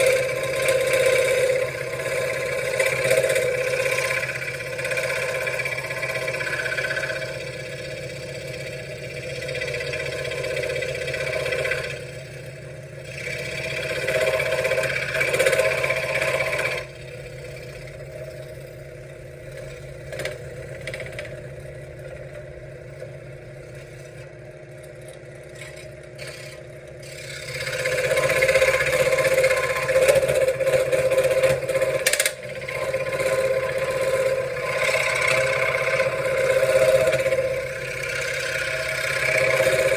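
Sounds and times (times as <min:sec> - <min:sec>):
scroll saw cutting wood: 0:00.0 - 0:18.8, 0:25.5 - 0:39.9.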